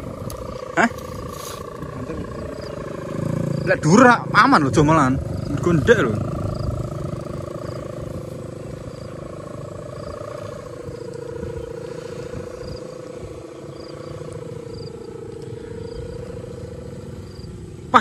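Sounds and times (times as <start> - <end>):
kite hummer droning: 0.0 - 18.0
wind rumble on microphone: 0.0 - 18.0.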